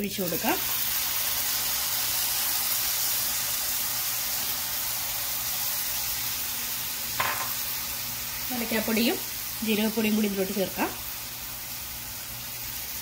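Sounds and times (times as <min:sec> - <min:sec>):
syrup sizzling in a pan: 0:00.0 - 0:13.0.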